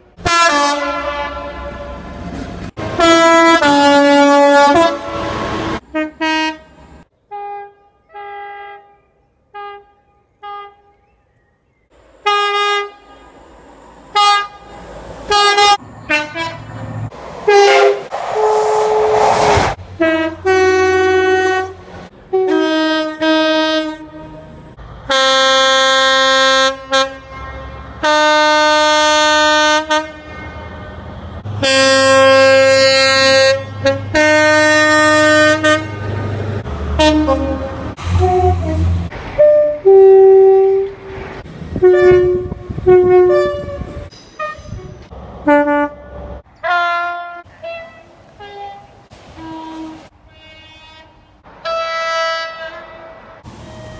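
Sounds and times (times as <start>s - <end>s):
passing train rush: 0.0s - 11.3s, 11.9s - 53.9s
two-tone train horn: 0.2s - 2.2s, 2.8s - 11.1s, 12.2s - 13.4s, 14.1s - 16.8s, 17.5s - 19.2s, 20.0s - 30.9s, 31.6s - 36.3s, 36.9s - 53.9s.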